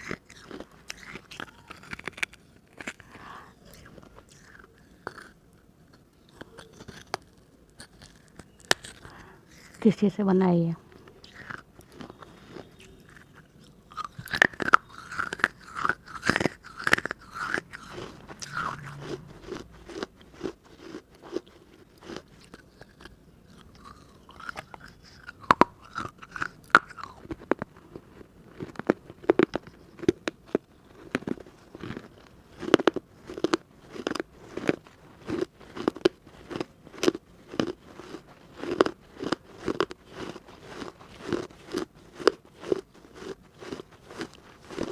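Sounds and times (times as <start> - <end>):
clay lamp crunching while chewed: 0.0 - 9.9, 10.9 - 44.9.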